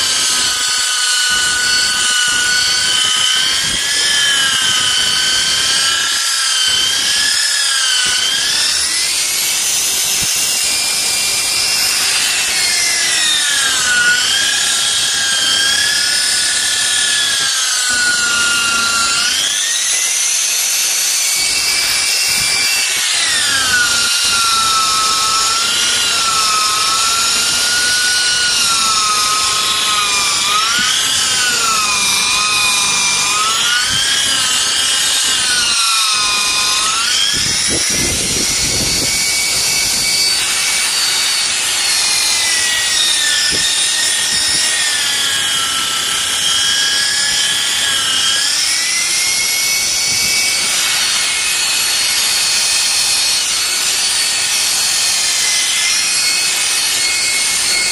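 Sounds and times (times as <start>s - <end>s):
electric polisher motor whine: 0.0s - 57.9s.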